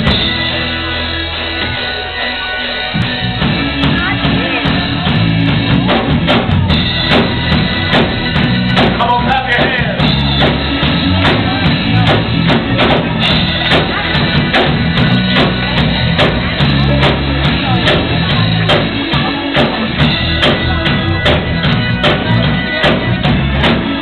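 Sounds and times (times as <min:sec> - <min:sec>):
gospel band with singers: 0:00.0 - 0:24.0
sharp percussive beat: 0:03.0 - 0:24.0.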